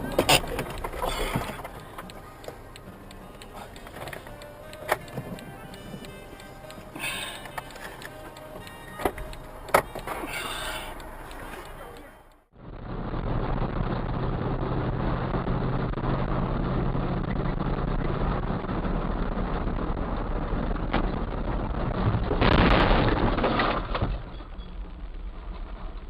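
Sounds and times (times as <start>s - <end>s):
car engine hum: 0.0s - 22.3s
road noise: 0.0s - 26.0s.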